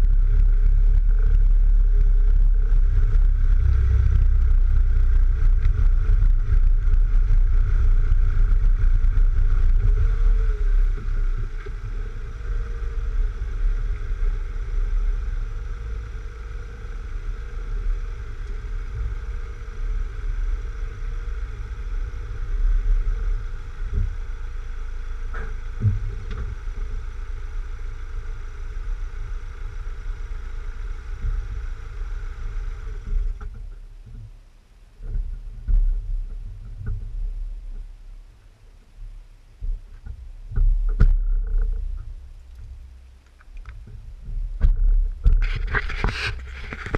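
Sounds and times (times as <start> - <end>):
car engine low rumble: 0.0 - 46.9
wind noise on microphone: 0.0 - 46.9.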